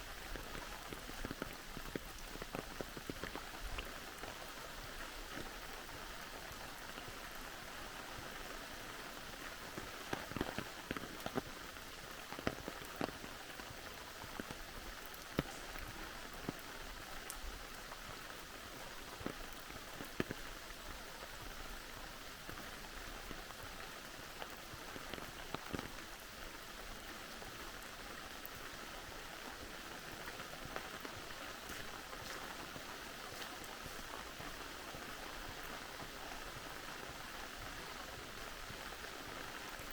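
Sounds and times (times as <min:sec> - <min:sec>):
raindrops striking close by: 0:00.0 - 0:39.9
steady rain: 0:00.0 - 0:39.9.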